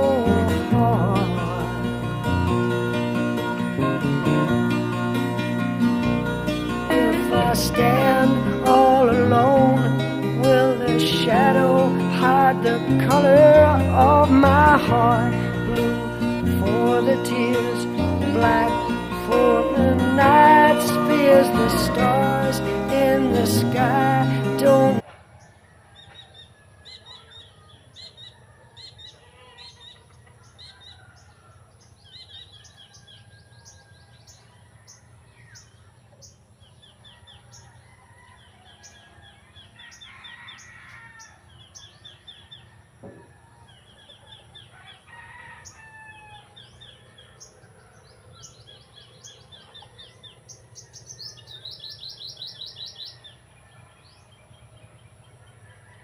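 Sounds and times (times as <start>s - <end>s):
chickens and roosters calling: 0.0s - 56.0s.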